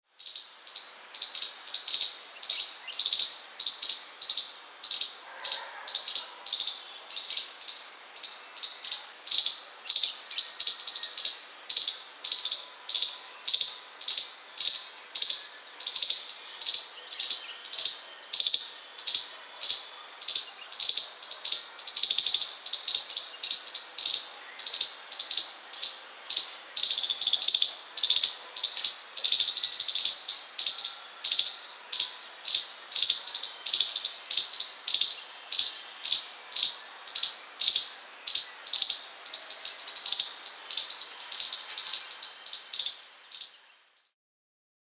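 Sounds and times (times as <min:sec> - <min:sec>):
chipmunk chirping: 0:00.2 - 0:43.6.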